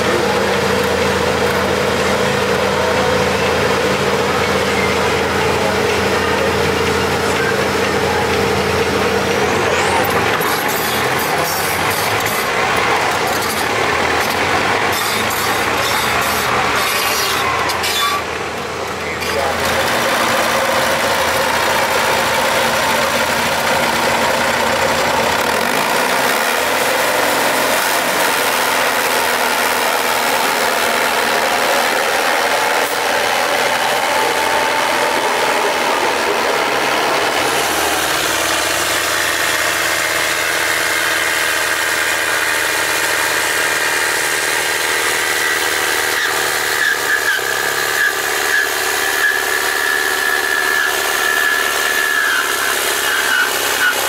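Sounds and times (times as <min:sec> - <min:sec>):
tractor engine running hard: 0:00.0 - 0:54.0.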